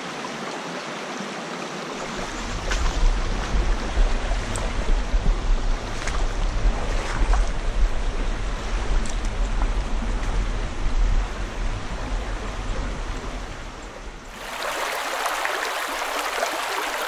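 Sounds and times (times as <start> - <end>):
creek trickling: 0.0 - 17.0
wind buffeting microphone: 2.0 - 17.0.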